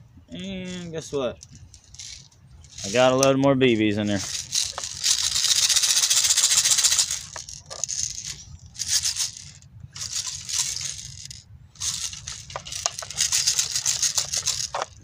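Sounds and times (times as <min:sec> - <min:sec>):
steel pellets rattling: 0:01.4 - 0:03.3, 0:04.1 - 0:15.0.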